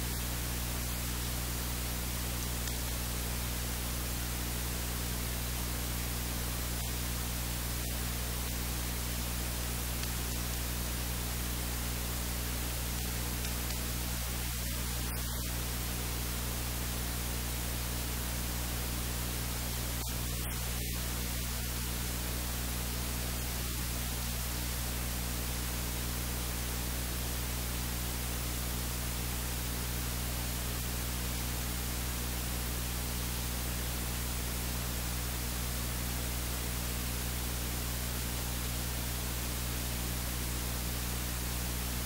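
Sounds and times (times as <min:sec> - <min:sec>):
low electrical hum: 0:00.0 - 0:42.0
static hiss: 0:00.0 - 0:42.0.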